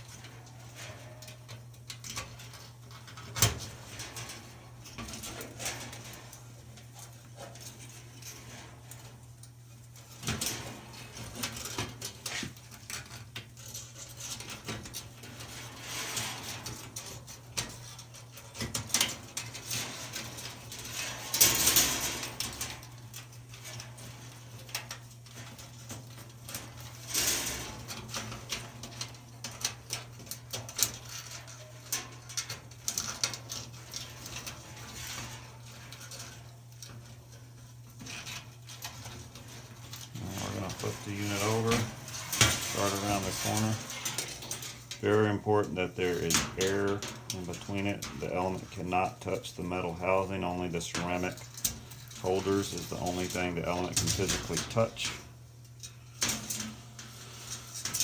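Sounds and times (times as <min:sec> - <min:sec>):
metal wire clicking and scraping: 0:00.0 - 0:58.0
steady low hum: 0:00.0 - 0:58.0.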